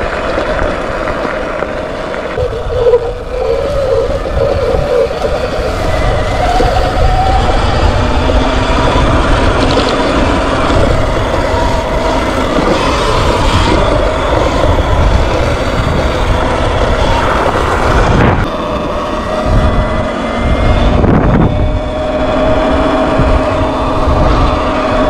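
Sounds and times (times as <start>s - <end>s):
electric motor whine: 0.0s - 25.0s
wind buffeting microphone: 0.0s - 25.0s.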